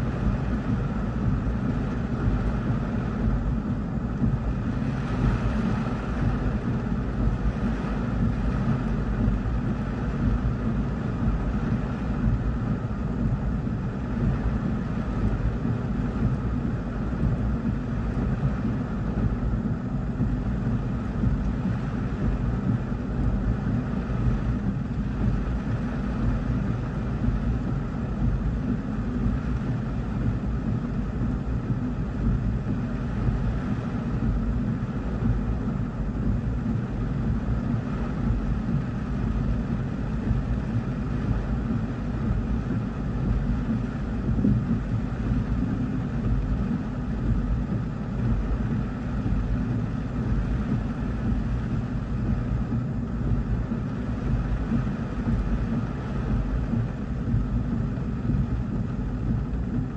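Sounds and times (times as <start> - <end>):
dense low rumble: 0.0 - 59.9
heavy rain drumming on car roof: 0.0 - 59.9.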